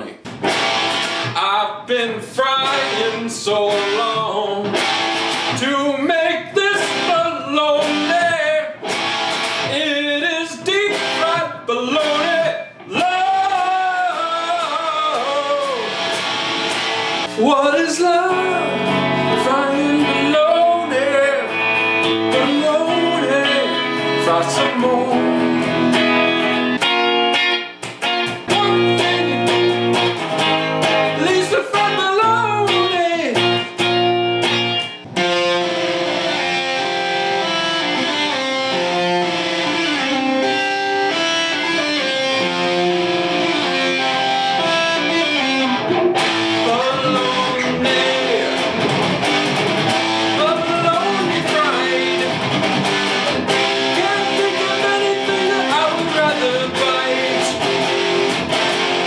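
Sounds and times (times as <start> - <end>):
electric guitar riffs: 0.0 - 59.0.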